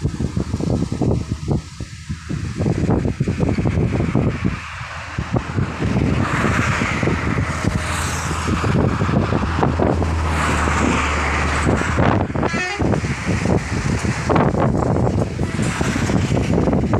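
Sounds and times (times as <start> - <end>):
vehicle engine hum: 0.0 - 16.9
wind buffeting microphone: 0.0 - 16.9.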